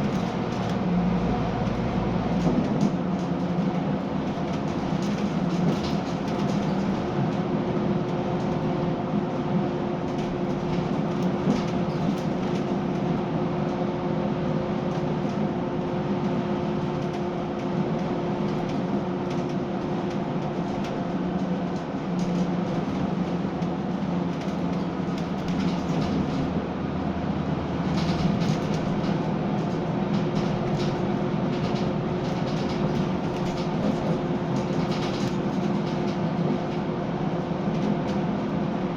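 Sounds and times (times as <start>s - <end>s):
bus diesel engine droning: 0.0s - 38.9s
road noise: 0.0s - 38.9s.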